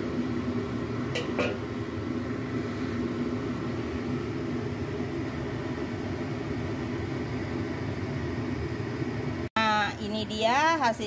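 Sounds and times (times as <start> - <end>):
fan or motor humming: 0.0 - 11.0.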